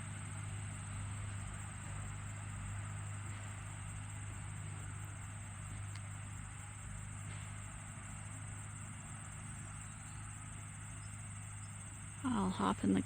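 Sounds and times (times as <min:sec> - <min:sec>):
crickets chirping: 0:00.0 - 0:13.0
distant tractor engine hum: 0:00.0 - 0:13.0.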